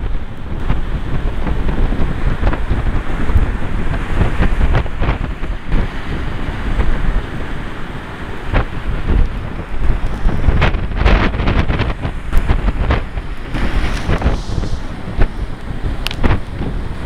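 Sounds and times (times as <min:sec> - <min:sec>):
rough sea and breaking surf: 0:00.0 - 0:17.0
wind buffeting microphone: 0:00.0 - 0:17.0.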